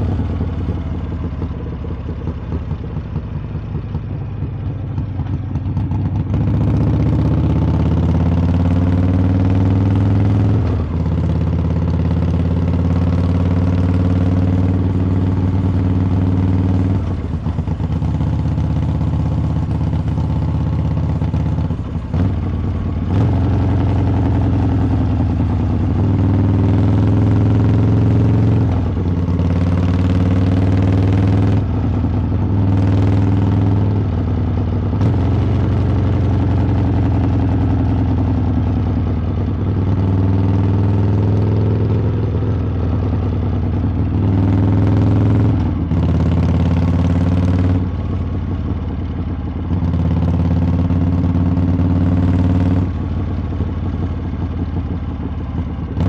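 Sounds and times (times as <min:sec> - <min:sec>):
motorcycle engine exhaust: 0:00.0 - 0:56.0.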